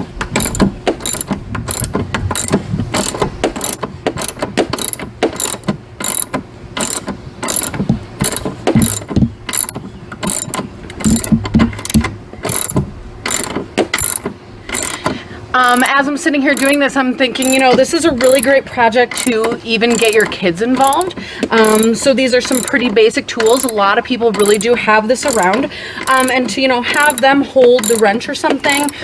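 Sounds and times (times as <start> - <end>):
socket ratchet clicking: 0.3 - 15.9, 16.5 - 16.8, 17.4 - 28.1, 28.7 - 29.0.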